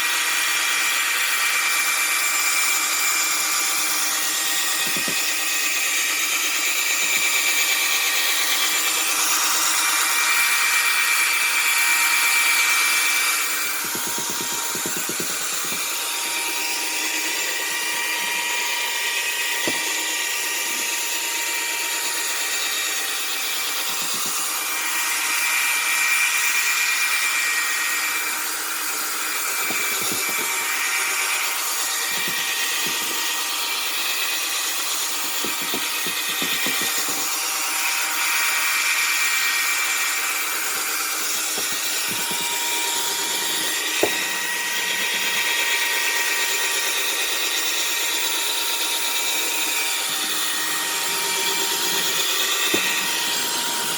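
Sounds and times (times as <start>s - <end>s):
electric drill whining: 0.0s - 53.9s.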